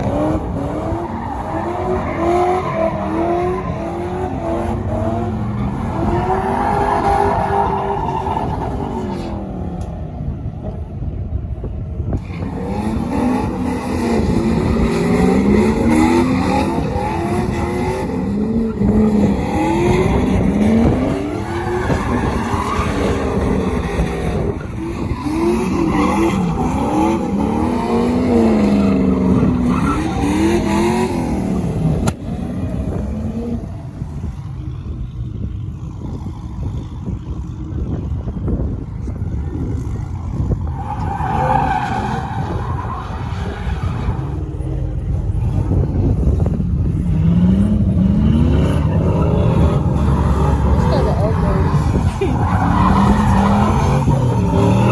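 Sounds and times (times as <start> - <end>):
vehicle engines revving hard: 0.0 - 54.9.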